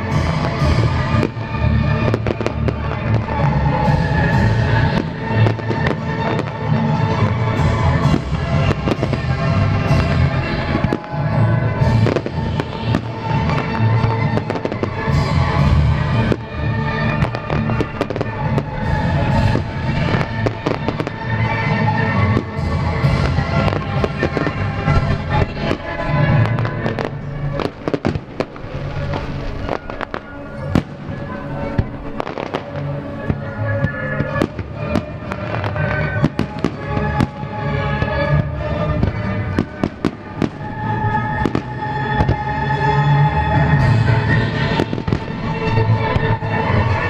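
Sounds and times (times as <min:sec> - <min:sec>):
fireworks bursting: 0:00.0 - 0:47.0
music with long held notes: 0:00.0 - 0:47.0.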